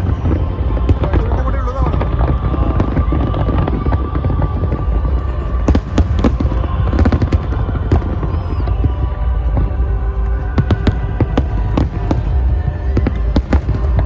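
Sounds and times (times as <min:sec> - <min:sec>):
firework cracks and pops: 0:00.0 - 0:14.0
rumble of firework bursts: 0:00.0 - 0:14.0.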